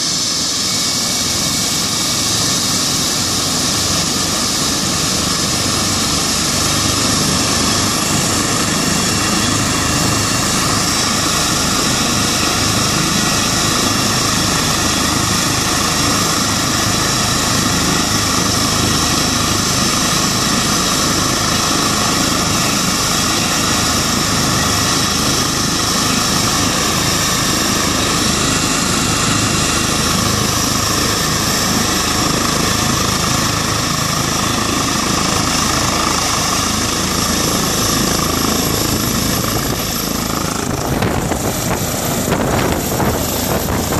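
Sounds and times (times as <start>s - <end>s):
helicopter rotor noise: 0.0s - 43.9s
helicopter turbine whine: 0.0s - 43.9s.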